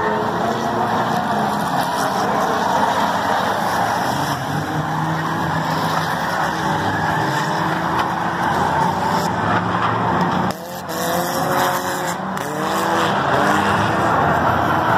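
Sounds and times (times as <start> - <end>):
race car engines: 0.0 - 14.9
tires skidding on asphalt: 0.0 - 14.9.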